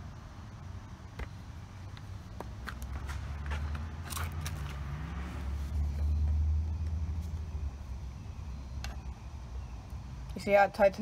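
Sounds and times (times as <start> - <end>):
vehicle engine rumbling: 0.0 - 10.6.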